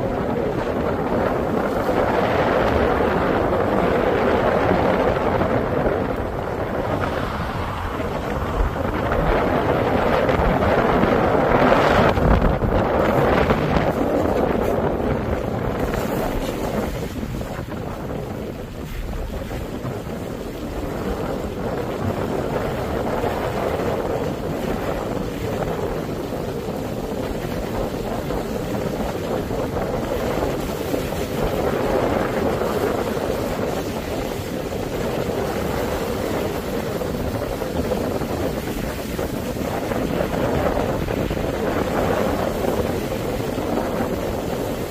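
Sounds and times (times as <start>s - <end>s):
car road and wind noise: 0.0s - 44.9s.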